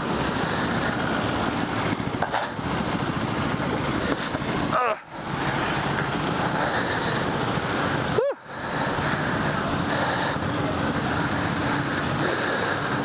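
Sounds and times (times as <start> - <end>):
go-kart engine running: 0.0 - 13.0.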